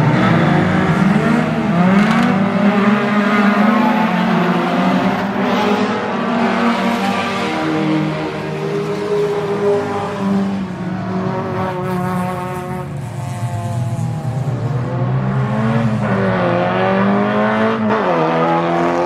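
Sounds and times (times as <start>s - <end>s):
race car engines running hard: 0.0s - 19.0s.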